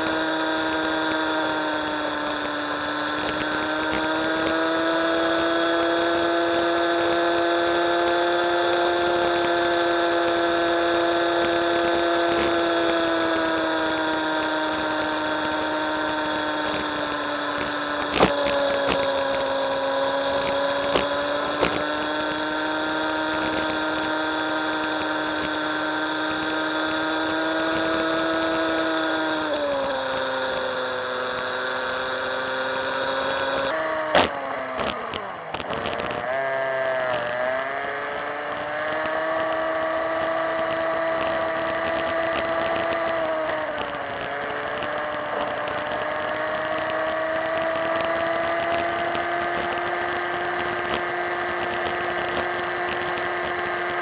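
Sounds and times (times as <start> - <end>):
motorbike engine whining: 0.0 - 54.0.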